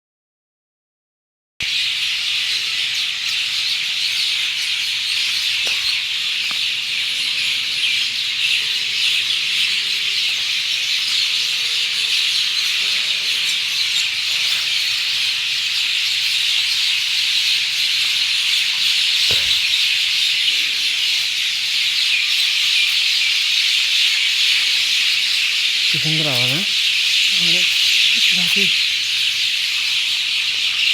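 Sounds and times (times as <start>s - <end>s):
birds chirping and singing: 1.6s - 30.9s.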